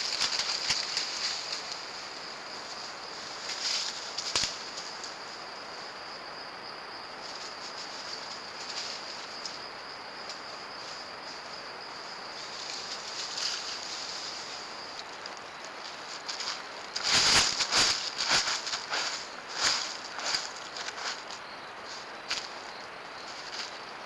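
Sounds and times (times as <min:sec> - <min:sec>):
constant hiss: 0:00.0 - 0:24.0
insects chirping: 0:00.0 - 0:24.0.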